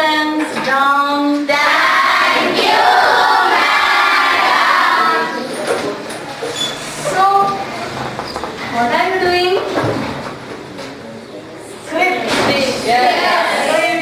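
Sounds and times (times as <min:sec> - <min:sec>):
jumble of many voices: 0:00.0 - 0:14.0.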